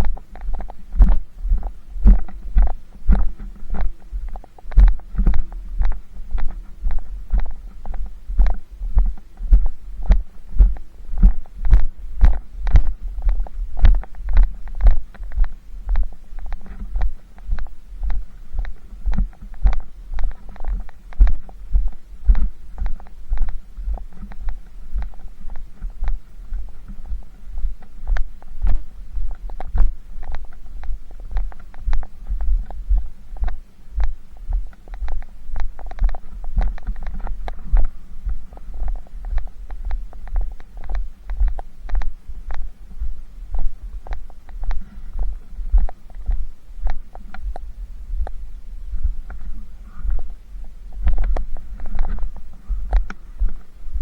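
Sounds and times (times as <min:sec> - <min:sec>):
dull low thumps with clicks: 0:00.0 - 0:54.0.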